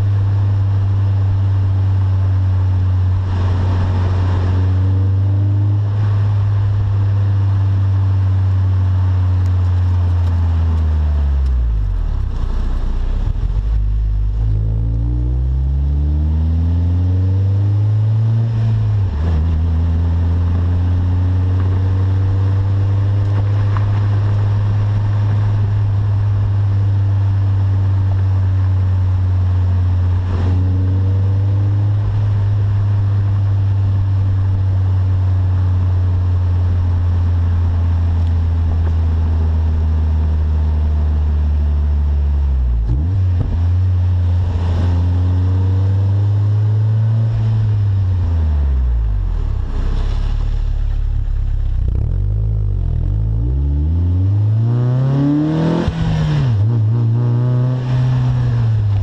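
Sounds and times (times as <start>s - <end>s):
car exhaust engine note: 0.0s - 59.0s.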